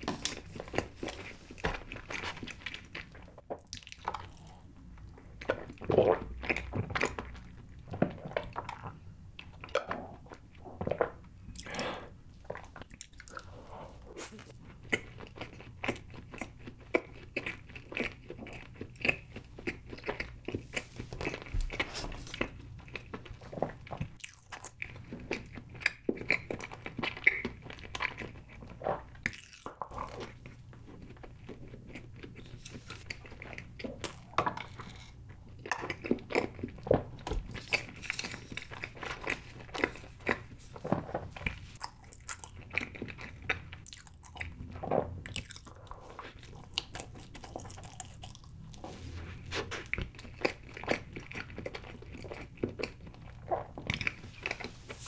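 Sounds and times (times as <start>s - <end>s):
chewing and crunching cake: 0.0s - 55.0s.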